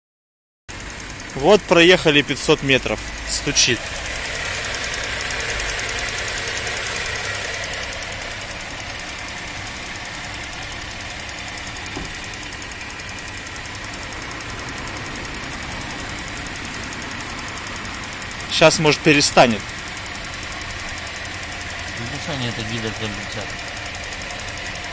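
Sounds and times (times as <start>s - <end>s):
car engine running: 0.7s - 24.9s
rapid engine ticking knock: 0.7s - 24.9s.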